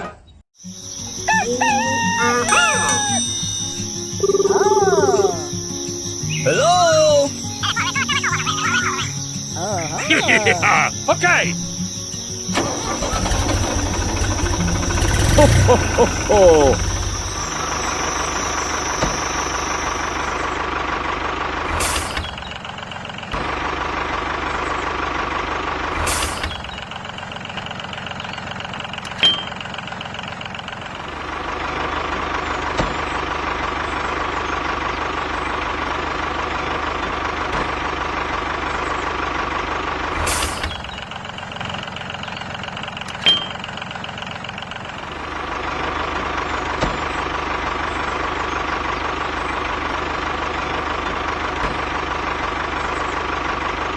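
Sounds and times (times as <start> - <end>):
small tractor engine running: 0.7 - 53.9.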